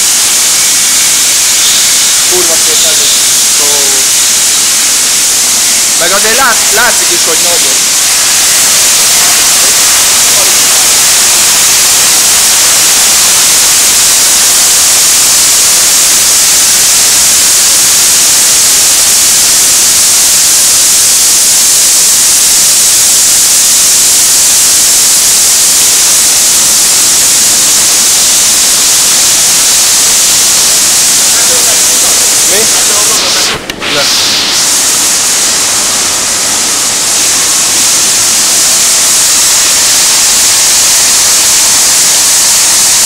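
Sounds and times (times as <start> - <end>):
water spraying hiss: 0.0 - 43.0.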